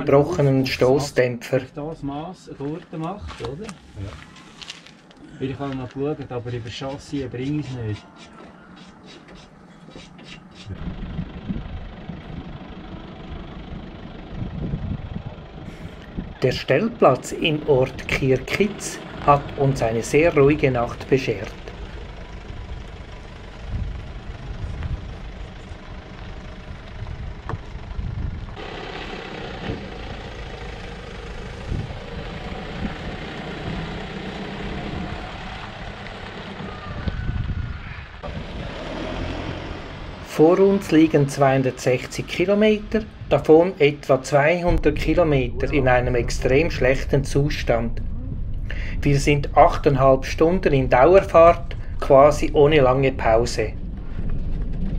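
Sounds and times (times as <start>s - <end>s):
vehicle engine idling: 0.0s - 54.9s.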